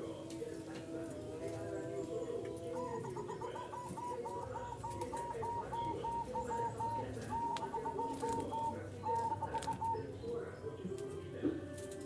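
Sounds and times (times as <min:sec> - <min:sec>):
low doves cooing: 0:00.0 - 0:10.4.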